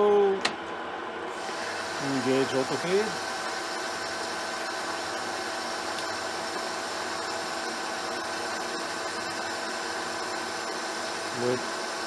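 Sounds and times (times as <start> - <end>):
metal lathe cutting hum: 1.3 - 12.0.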